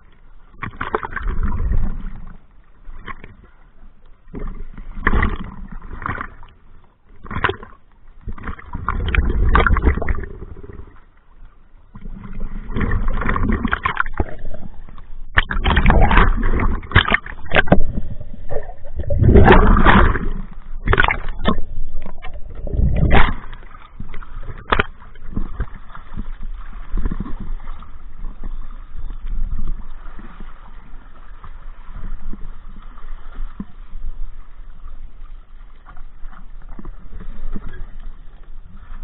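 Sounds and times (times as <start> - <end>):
water sloshing and splashing: 0.0 - 39.0.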